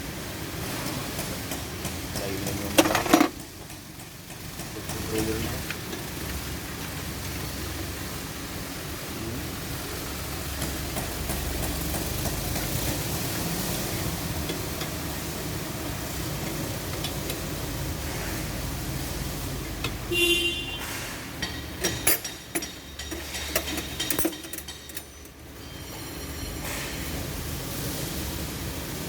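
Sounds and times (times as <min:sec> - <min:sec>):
steady hissing noise: 0:00.0 - 0:29.0.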